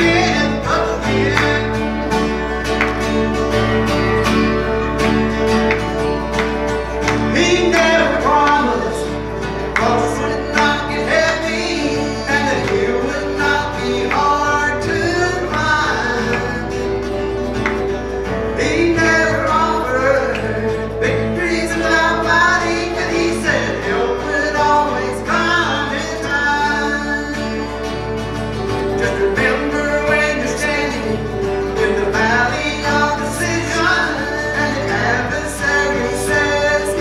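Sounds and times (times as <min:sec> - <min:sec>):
country gospel band playing: 0:00.0 - 0:37.0
people singing: 0:00.0 - 0:37.0.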